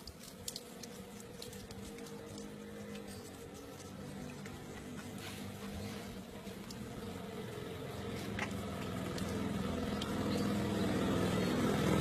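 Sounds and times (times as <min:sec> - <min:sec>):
motor engine running: 0:02.1 - 0:12.0.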